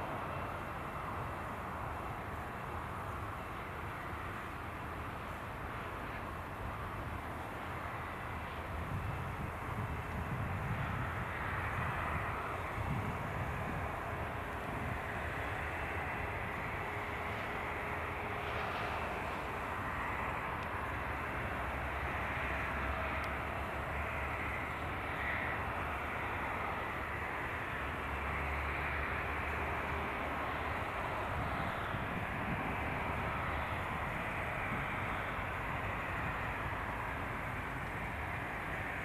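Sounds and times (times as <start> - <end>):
jet airliner engine rush: 0.0 - 39.0.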